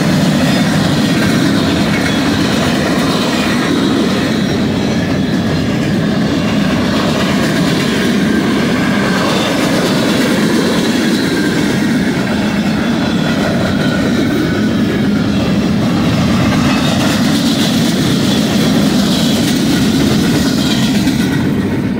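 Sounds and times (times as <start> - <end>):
steel wheels rumbling on rail: 0.0 - 21.9.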